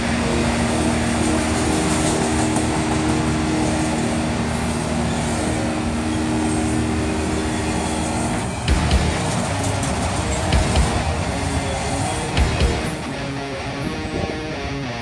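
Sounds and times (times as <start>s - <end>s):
freight train wheels rumbling: 0.0s - 15.0s
held humming tones: 0.0s - 15.0s.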